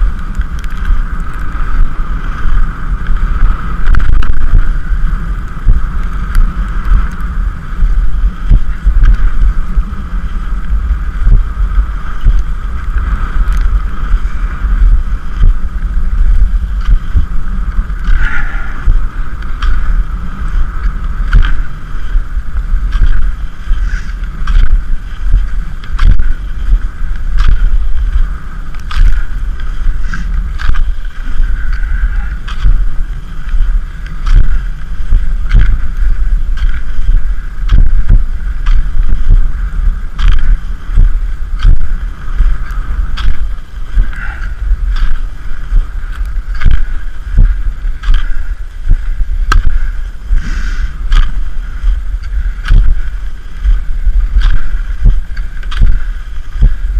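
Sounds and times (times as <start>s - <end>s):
ski pole plants: 0.0s - 56.9s
skis scraping on snow: 0.0s - 56.9s
wind rumble on microphone: 0.0s - 56.9s.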